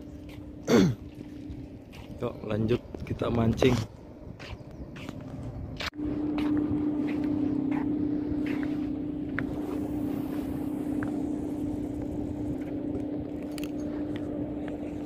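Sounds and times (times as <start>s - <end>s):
low engine drone: 0.0s - 15.0s
rough low rumble: 0.0s - 15.0s.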